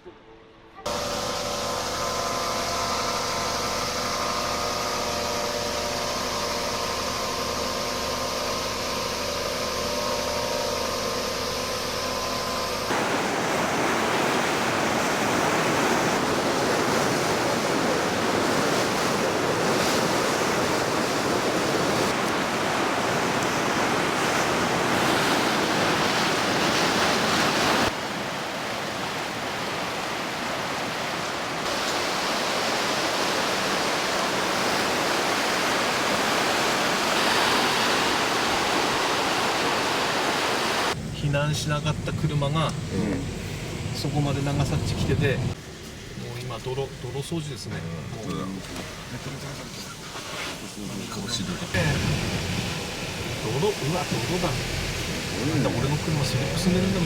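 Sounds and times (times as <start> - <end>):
motor pump humming: 0.9 - 57.0
rushing water: 0.9 - 57.0.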